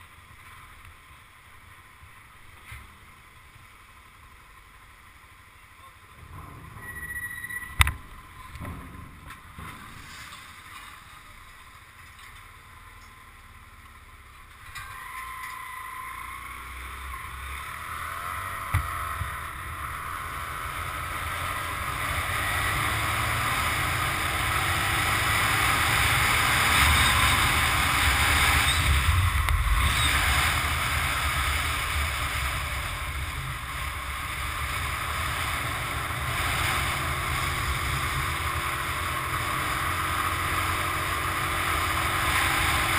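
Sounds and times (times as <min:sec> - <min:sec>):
motorcycle engine rumble: 0:00.0 - 0:42.9
road noise: 0:00.0 - 0:42.9.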